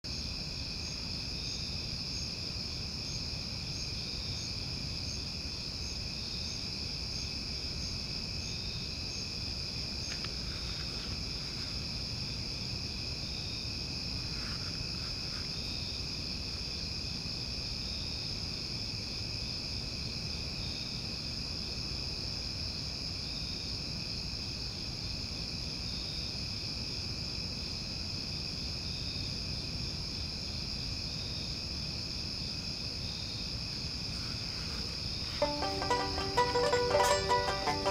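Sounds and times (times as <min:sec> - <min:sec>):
high insect chirp: 0:00.0 - 0:37.9
insects trilling: 0:00.1 - 0:24.9, 0:30.0 - 0:37.9.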